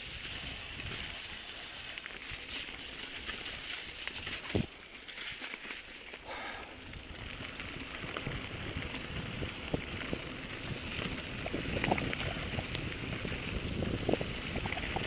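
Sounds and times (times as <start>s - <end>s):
wind rumbling on microphone: 0.0s - 4.8s, 6.3s - 15.0s
bike clicks and rattles: 0.0s - 15.0s
bike tyre noise: 0.0s - 15.0s.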